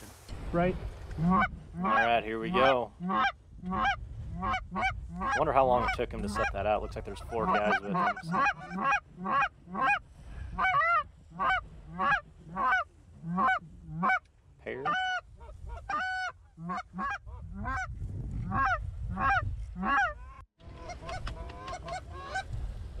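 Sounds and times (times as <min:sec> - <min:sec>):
wind rumbling on microphone: 0:00.0 - 0:23.0
goose honking: 0:01.2 - 0:10.0, 0:10.6 - 0:17.8, 0:18.5 - 0:22.4.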